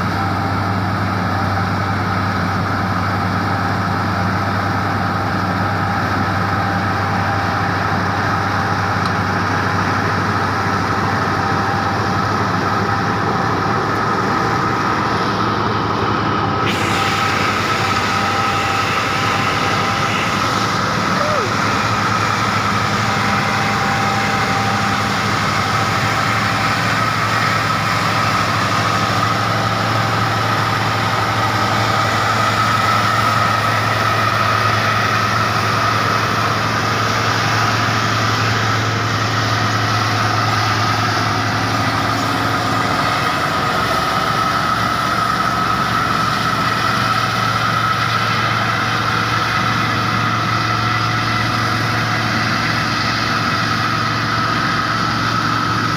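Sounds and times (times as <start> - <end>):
diesel engine drone: 0.0 - 55.9
steady whine: 0.0 - 55.9.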